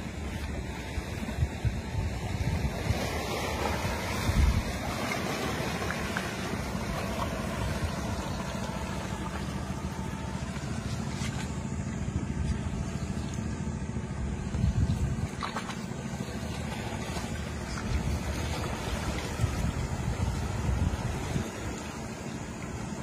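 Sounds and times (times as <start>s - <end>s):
small waves washing among rocks: 0.0s - 13.5s, 14.4s - 23.0s
wind rumble on microphone: 0.0s - 23.0s.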